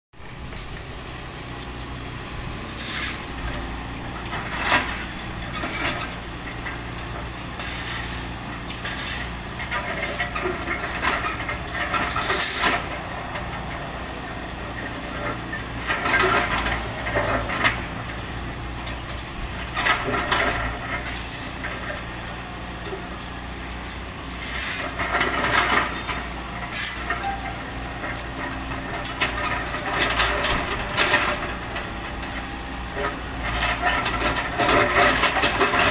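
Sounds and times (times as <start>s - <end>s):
engine running: 0.2s - 35.9s.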